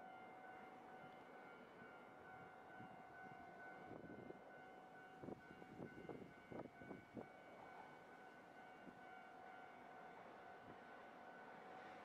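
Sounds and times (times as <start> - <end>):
level crossing warning bell: 0.0 - 10.2.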